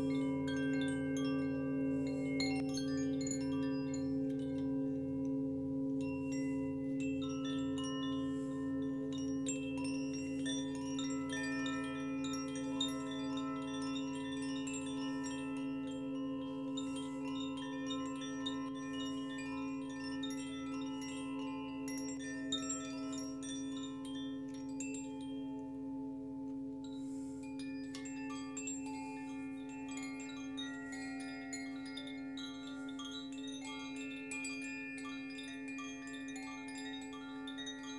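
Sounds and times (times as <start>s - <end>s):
metal wind chimes ringing: 0.0s - 37.9s.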